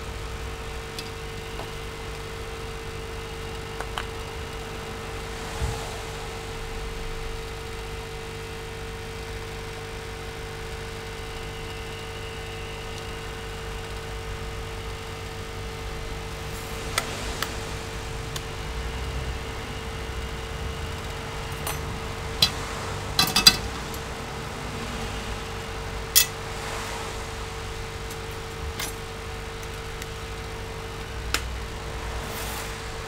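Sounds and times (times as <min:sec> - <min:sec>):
steady electrical hum: 0:00.0 - 0:33.0.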